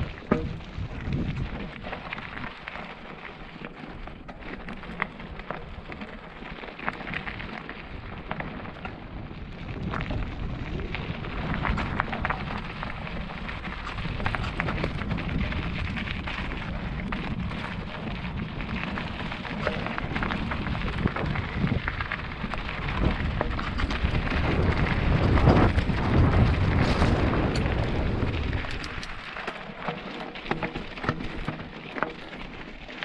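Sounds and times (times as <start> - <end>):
bike tyres crackling on gravel: 0.0 - 33.0.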